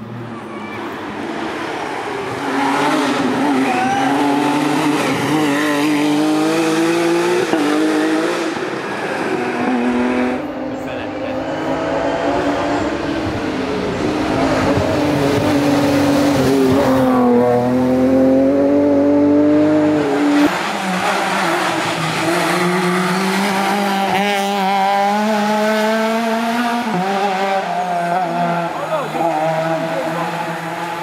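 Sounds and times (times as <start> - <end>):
rally car engine at hard throttle: 0.0 - 31.0.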